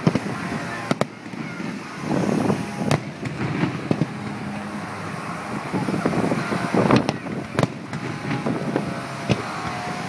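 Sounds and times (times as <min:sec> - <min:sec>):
firework bang: 0:00.0 - 0:04.6, 0:05.7 - 0:09.9
firework cracks: 0:00.0 - 0:10.0
steady background noise: 0:00.0 - 0:10.0.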